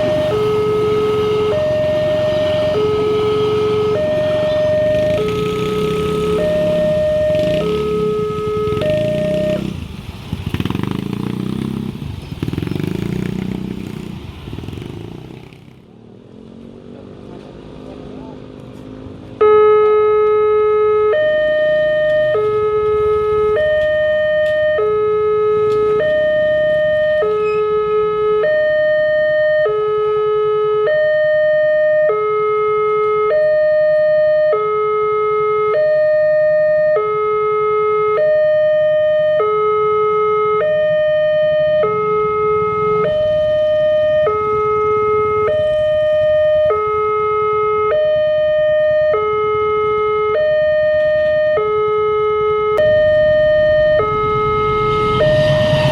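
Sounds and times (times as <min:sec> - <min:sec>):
two-tone crossing warning alarm: 0:00.0 - 0:14.1, 0:19.4 - 0:55.9.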